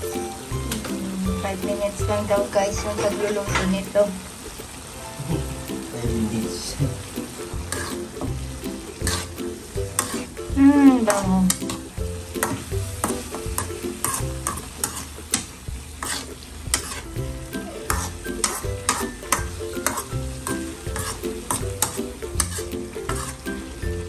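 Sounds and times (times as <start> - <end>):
background music: 0.0 - 24.0
frying sizzle: 0.0 - 24.0
metal utensil scraping wok: 0.0 - 24.0.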